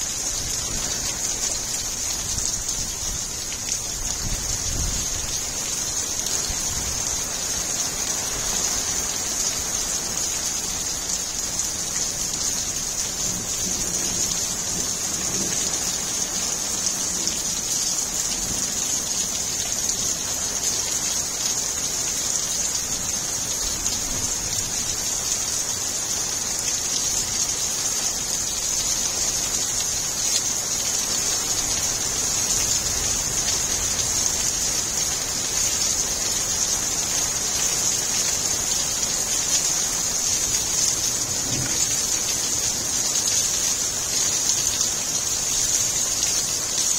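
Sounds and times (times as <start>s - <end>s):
heavy rain on gravel and pavement: 0.0s - 46.9s.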